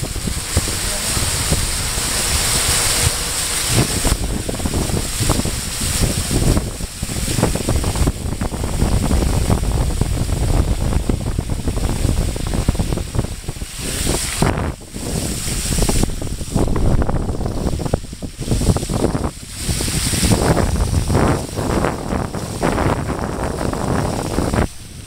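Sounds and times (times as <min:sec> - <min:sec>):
heavy low rumble: 0:00.0 - 0:25.0
rain and water spray hissing: 0:00.0 - 0:25.0
wind buffeting microphone: 0:00.0 - 0:25.0.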